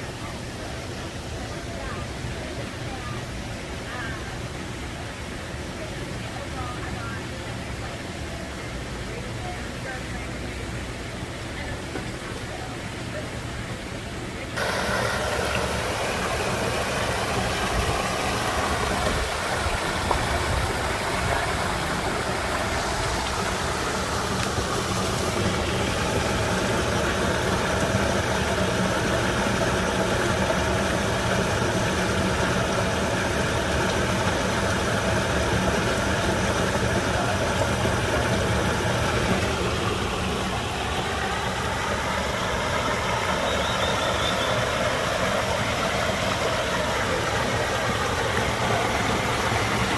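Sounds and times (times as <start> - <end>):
waterfall rushing and splashing: 0.0 - 49.9.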